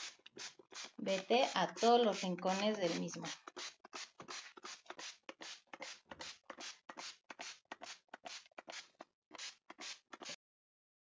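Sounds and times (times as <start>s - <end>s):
spray bottle hissing spurts: 0.0s - 10.4s.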